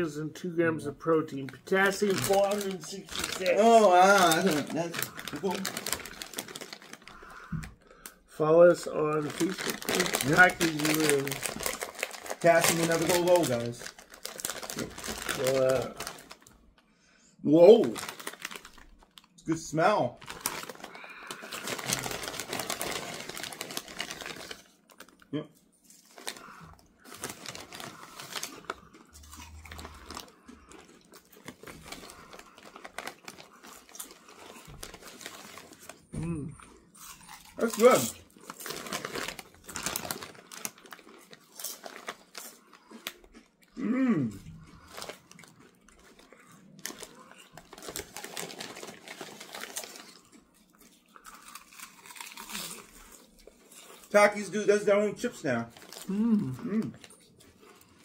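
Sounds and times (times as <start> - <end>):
foil chip bag crinkling: 1.0 - 16.6, 17.6 - 36.1, 37.0 - 43.4, 44.6 - 58.0
chips being chewed: 1.3 - 8.2, 8.9 - 16.5, 20.2 - 54.1.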